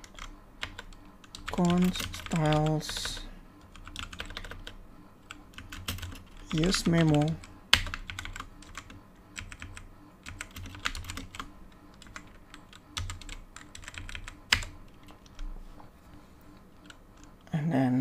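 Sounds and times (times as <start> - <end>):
typing on computer keyboard: 0.0 - 15.5, 16.7 - 17.5.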